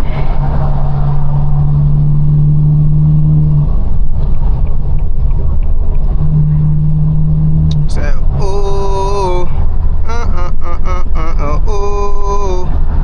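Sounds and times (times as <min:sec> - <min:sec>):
car exhaust drone: 0:00.0 - 0:13.0.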